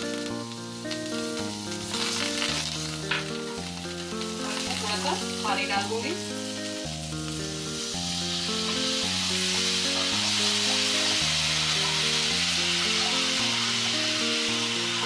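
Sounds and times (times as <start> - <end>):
background music with sustained notes: 0.0 - 15.0
water sizzling in hot oil: 0.0 - 15.0.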